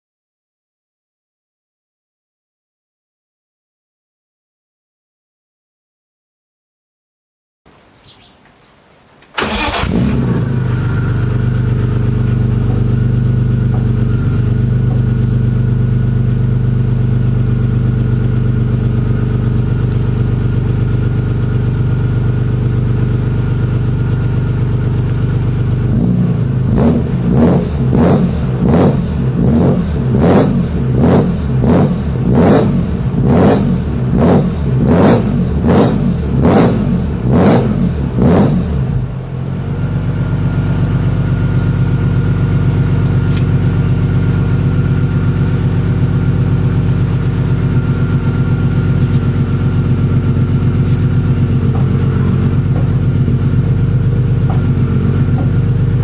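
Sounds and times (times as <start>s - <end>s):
car engine starting and idling: 9.2s - 56.0s
engine revving in throttle blips: 9.4s - 39.3s, 40.4s - 56.0s.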